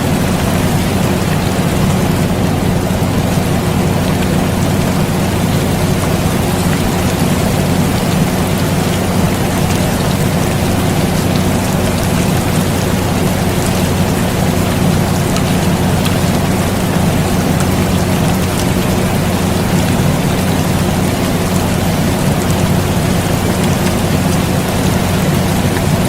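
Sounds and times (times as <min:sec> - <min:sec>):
air conditioner humming: 0:00.0 - 0:26.0
raindrops ticking: 0:00.0 - 0:26.0
steady rain: 0:00.0 - 0:26.0.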